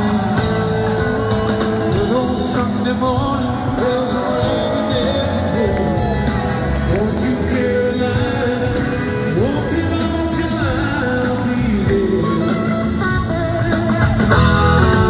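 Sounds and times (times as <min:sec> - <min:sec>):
person singing: 0:00.0 - 0:15.0
rock band playing live: 0:00.0 - 0:15.0.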